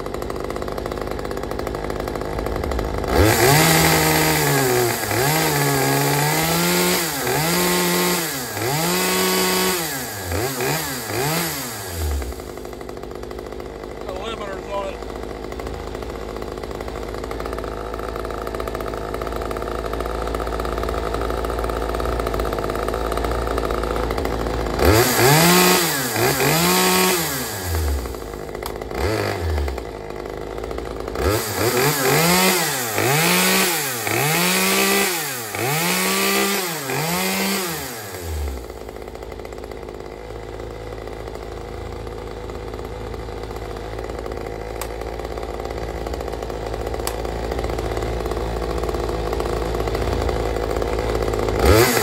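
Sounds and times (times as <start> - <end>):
chainsaw idling and revving: 0.0 - 52.0.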